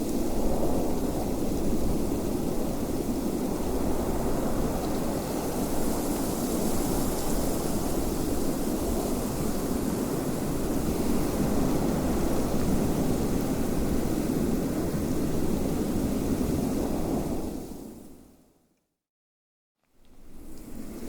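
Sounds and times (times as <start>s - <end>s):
wind blowing: 0.0s - 18.0s.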